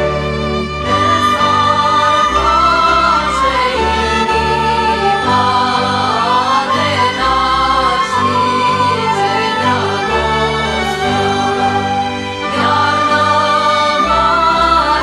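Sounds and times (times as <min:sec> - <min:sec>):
choir singing slow melody: 0:00.1 - 0:15.0.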